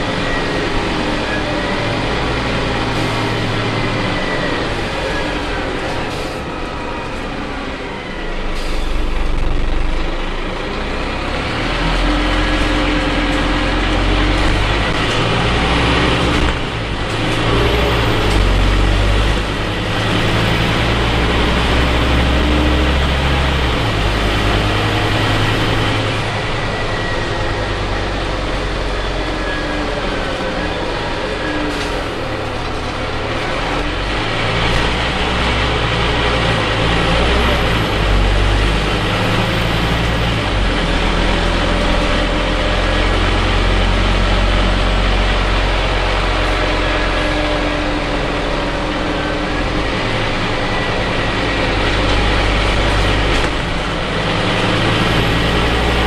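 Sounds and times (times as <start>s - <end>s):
bus diesel engine droning: 0.0s - 56.0s
road noise: 0.0s - 56.0s.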